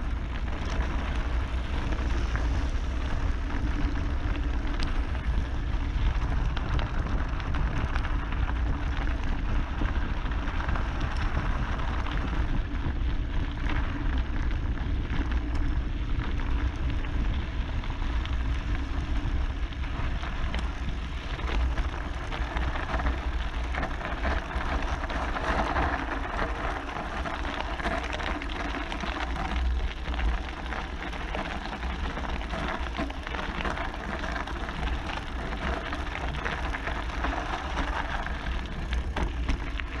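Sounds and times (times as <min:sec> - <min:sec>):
bike rattling: 0:00.0 - 0:40.0
bike tyres crunching over gravel: 0:00.0 - 0:40.0
low rumble: 0:00.0 - 0:40.0.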